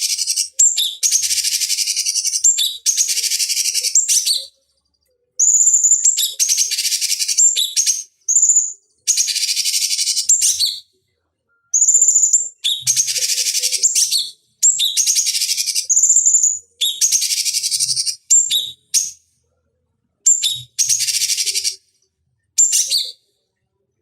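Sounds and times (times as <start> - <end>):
bird whistling and trilling: 0.0 - 4.6, 5.4 - 10.9, 11.7 - 19.2, 20.3 - 21.8, 22.6 - 23.3.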